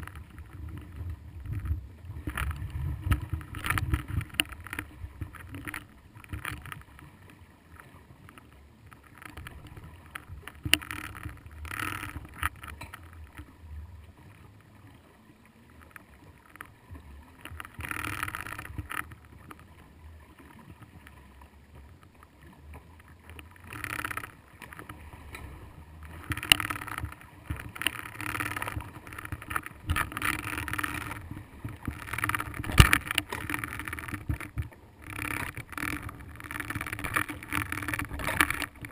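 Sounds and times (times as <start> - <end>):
muffled underwater water noise: 0.0 - 38.9.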